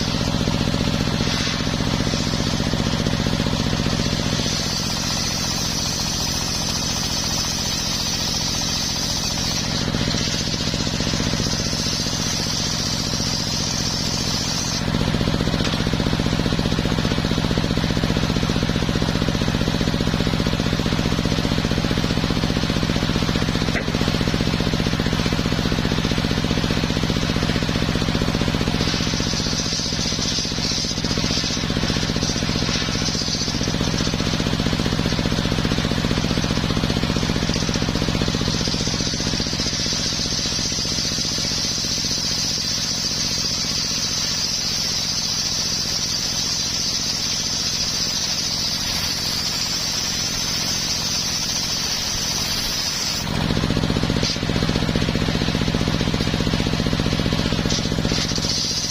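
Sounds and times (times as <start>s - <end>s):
circular saw blade cutting timber: 0.0s - 58.9s
sawmill engine rattling drone: 0.0s - 58.9s.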